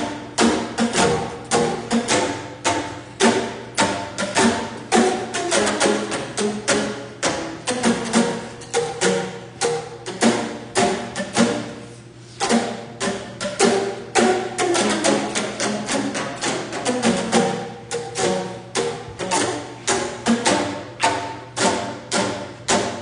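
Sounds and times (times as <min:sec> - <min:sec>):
live percussive music: 0:00.0 - 0:23.0.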